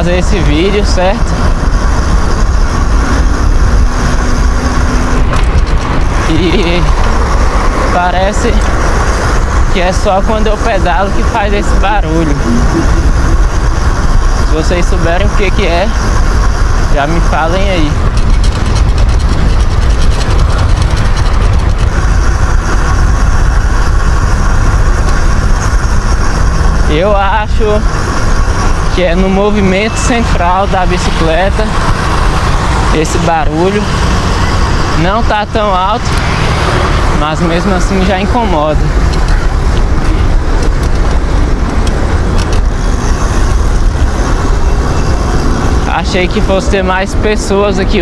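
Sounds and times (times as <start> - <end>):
bicycle road rumble: 0.0 - 48.0
wind: 0.0 - 48.0
bicycle drivetrain clicking: 0.1 - 48.0.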